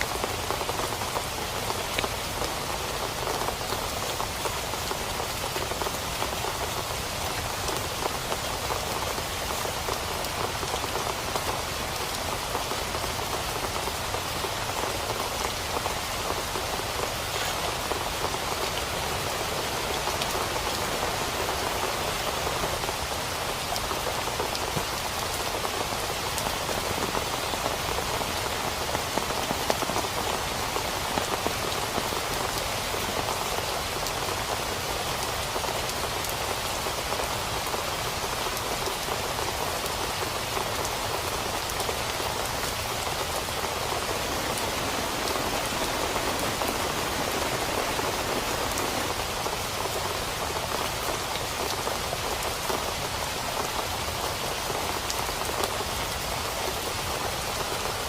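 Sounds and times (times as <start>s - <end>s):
rain hitting a tent: 0.0s - 58.0s.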